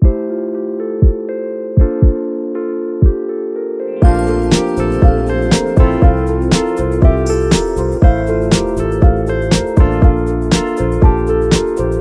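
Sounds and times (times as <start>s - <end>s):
music with steady beat: 0.0s - 3.4s, 4.0s - 12.0s.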